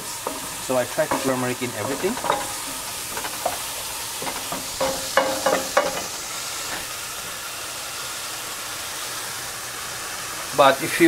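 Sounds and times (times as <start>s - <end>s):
mushrooms sizzling in frying pan: 0.0s - 11.0s.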